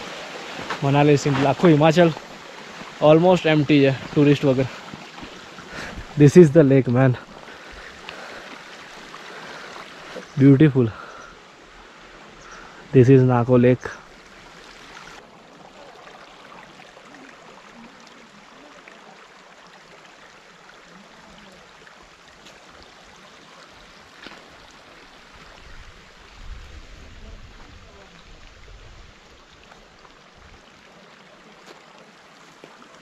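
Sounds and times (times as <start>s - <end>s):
faint outdoor hiss: 0.0s - 33.0s.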